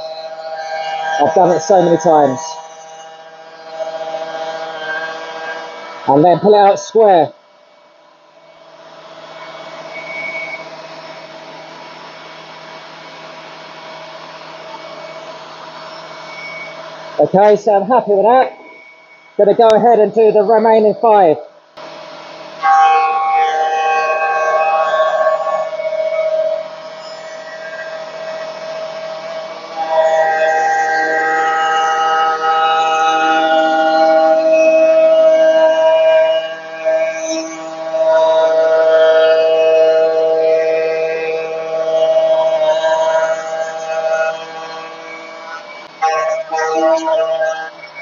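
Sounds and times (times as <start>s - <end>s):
router motor whine: 0.0s - 6.8s, 7.4s - 19.8s, 21.6s - 48.0s.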